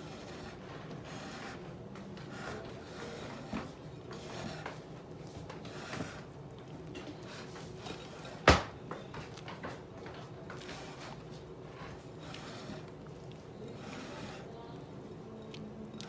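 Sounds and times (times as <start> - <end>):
spatula scraping batter in bowl: 0.0 - 8.4, 9.2 - 14.7.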